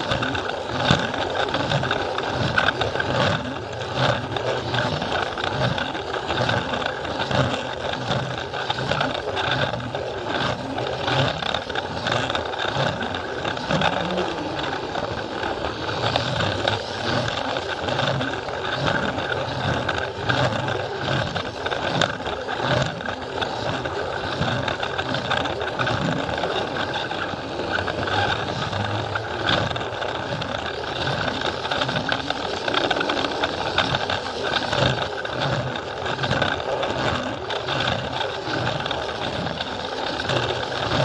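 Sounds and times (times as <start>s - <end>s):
toy train motor whir: 0.0s - 41.0s
wheels rattling: 0.0s - 41.0s.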